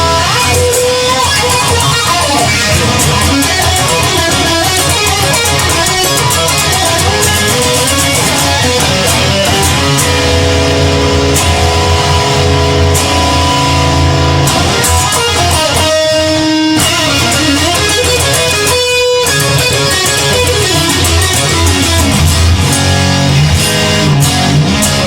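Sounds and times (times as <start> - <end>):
instrumental rock music: 0.0 - 25.0.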